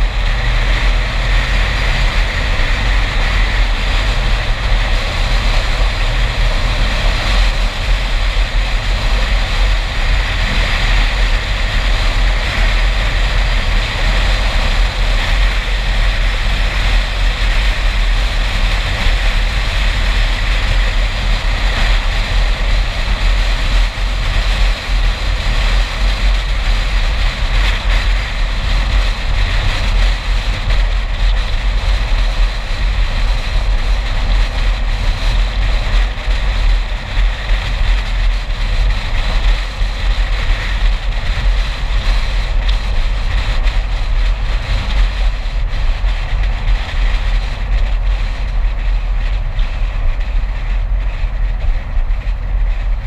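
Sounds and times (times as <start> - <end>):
car road and wind noise: 0.0 - 53.0.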